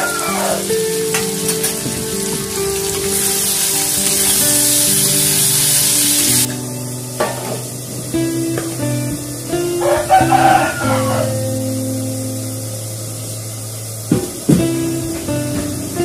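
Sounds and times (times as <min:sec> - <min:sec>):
beans sizzling in a wok: 0:00.0 - 0:16.0.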